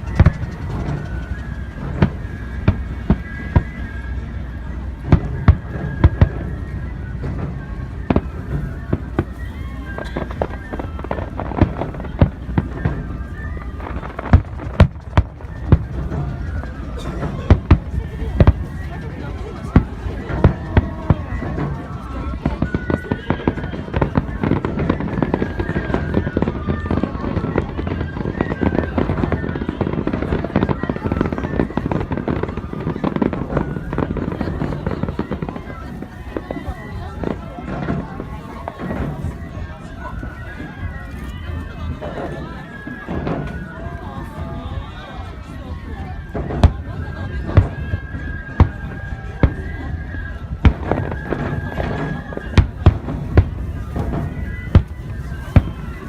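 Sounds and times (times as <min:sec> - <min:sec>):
faint music: 0:00.0 - 0:56.0
fireworks bangs: 0:00.0 - 0:56.0.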